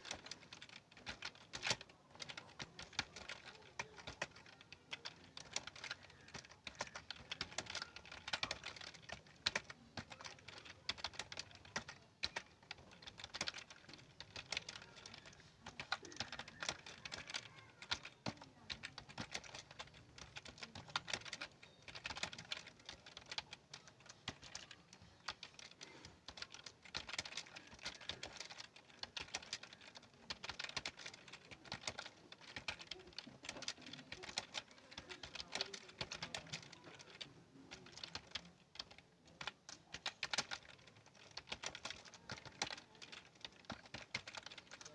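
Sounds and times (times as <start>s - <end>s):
fast typing on keyboard: 0.0s - 44.9s.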